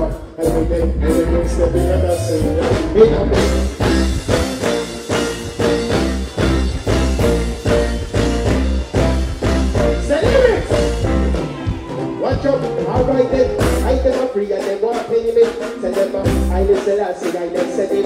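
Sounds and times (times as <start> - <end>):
reggae music with heavy bass: 0.0 - 18.0.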